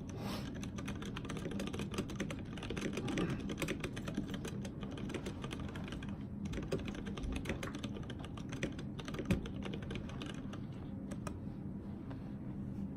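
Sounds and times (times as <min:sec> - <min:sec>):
mechanical keyboard typing: 0:00.0 - 0:11.4.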